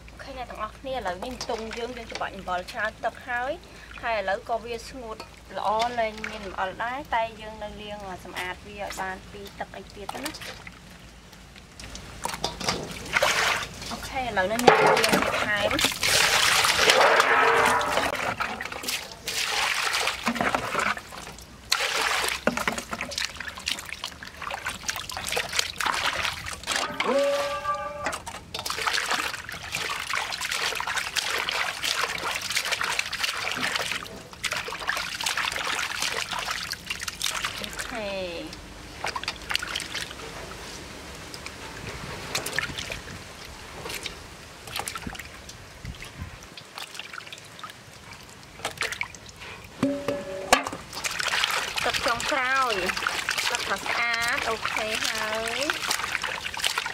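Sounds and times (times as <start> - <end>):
water running and splashing: 0.0 - 56.9.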